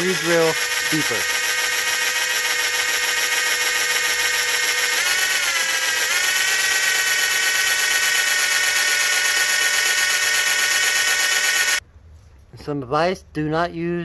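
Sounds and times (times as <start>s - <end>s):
electric drill whining: 0.0s - 11.8s.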